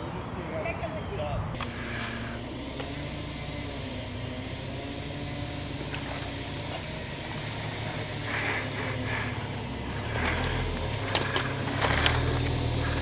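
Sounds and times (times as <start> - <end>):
car engine running: 1.5 - 13.0.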